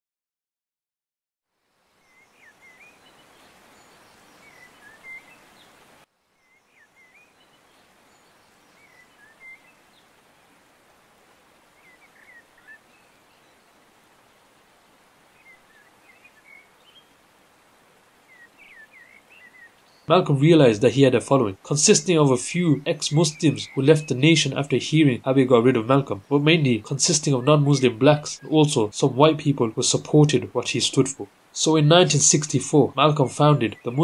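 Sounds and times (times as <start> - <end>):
soft steady hiss: 1.4 - 34.0
birds chirping: 2.0 - 34.0.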